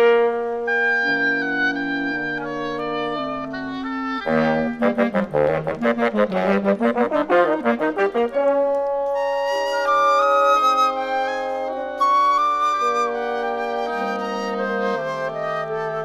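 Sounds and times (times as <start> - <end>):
woodwind quintet playing: 0.0 - 16.0.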